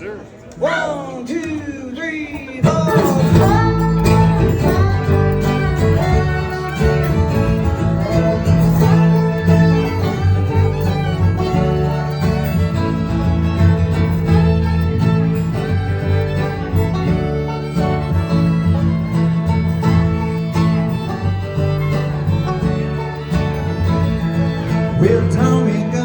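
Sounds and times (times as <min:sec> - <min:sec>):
guitar: 0:01.4 - 0:26.0
fiddle: 0:02.6 - 0:26.0
steady bass: 0:02.6 - 0:26.0.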